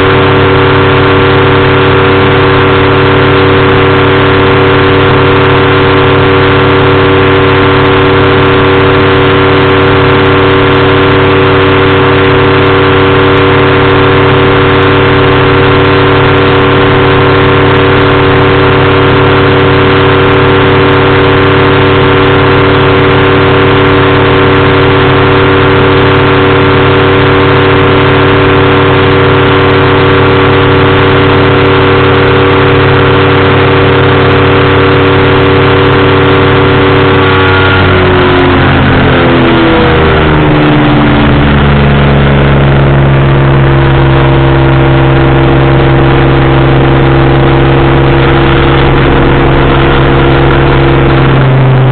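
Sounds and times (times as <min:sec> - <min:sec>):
engine and propeller running: 0:00.0 - 0:51.9.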